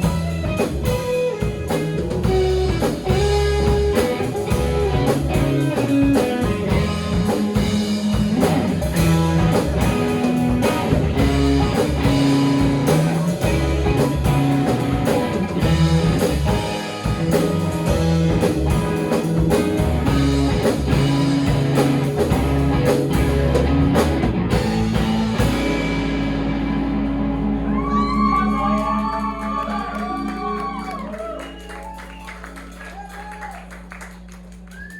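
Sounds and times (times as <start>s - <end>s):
live rock band playing: 0.0s - 32.3s.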